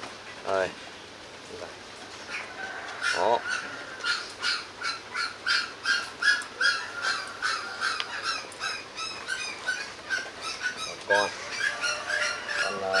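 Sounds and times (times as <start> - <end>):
puppy yelping: 2.3 - 13.0.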